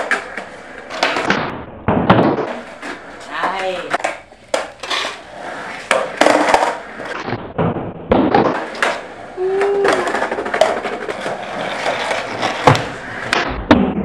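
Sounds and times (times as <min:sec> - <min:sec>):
skateboard clacks: 0:00.0 - 0:14.0
skateboard wheels rolling on concrete: 0:00.0 - 0:14.0.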